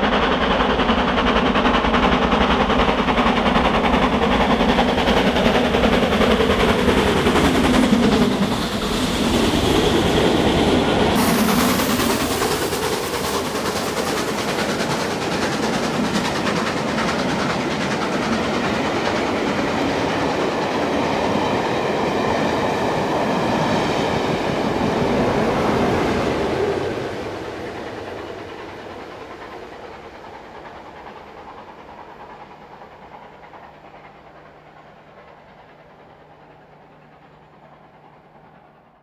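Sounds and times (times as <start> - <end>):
train wheels clattering: 0.0 - 38.8
diesel locomotive passing: 0.0 - 39.0.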